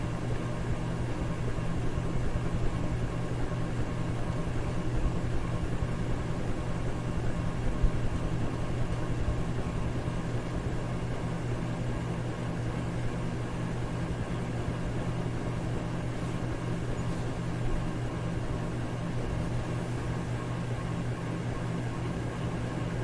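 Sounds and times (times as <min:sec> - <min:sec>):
electric fan running: 0:00.0 - 0:23.0.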